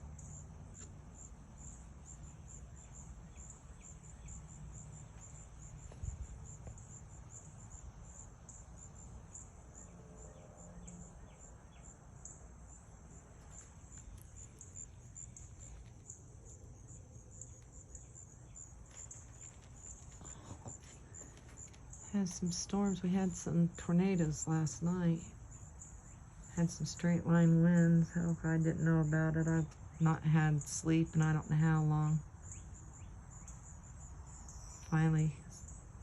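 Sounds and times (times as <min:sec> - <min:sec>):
low outdoor rumble: 0:00.0 - 0:33.0
insects trilling: 0:00.0 - 0:36.0.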